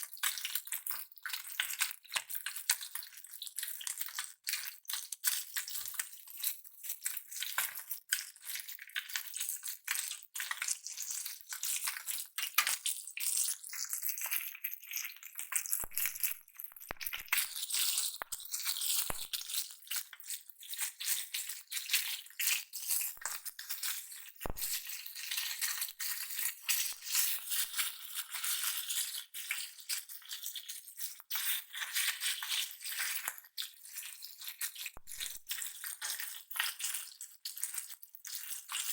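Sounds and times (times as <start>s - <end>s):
fish sizzling in hot oil: 0.1s - 38.9s.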